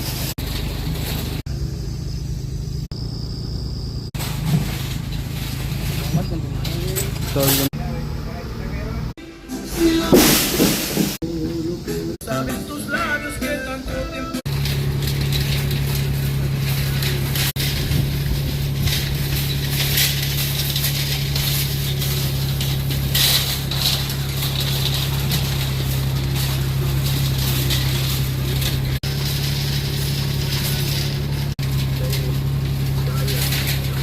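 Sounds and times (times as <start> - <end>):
low engine drone: 0.0 - 12.6, 14.4 - 34.0.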